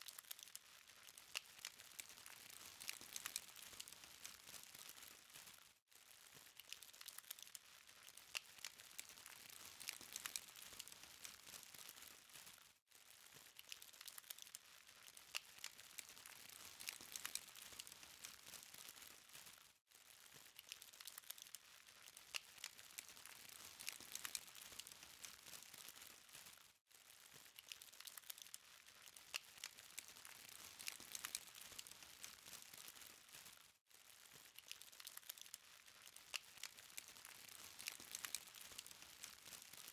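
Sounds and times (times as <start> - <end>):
charcoal fire crackling: 0.0 - 39.9.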